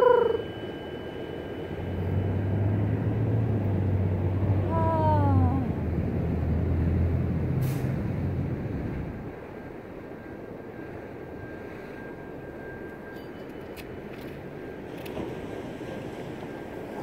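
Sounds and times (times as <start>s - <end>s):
low engine drone: 0.0s - 17.0s
outdoor background rumble: 0.0s - 17.0s.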